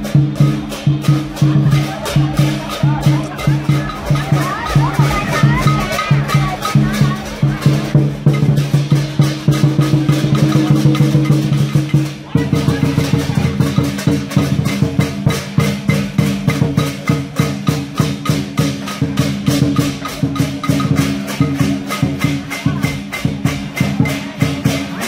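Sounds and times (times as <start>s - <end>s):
clicking percussion beat: 0.0s - 25.0s.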